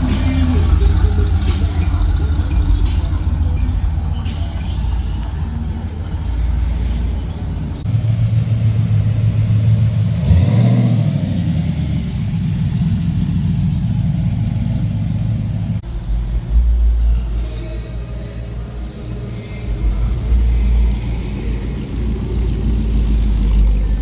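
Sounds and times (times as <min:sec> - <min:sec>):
car engine with deep exhaust rumble: 0:00.0 - 0:24.0.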